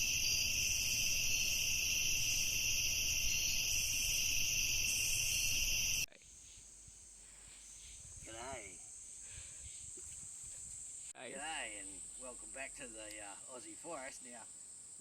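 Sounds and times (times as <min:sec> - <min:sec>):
insects droning in chorus: 0:00.0 - 0:15.0.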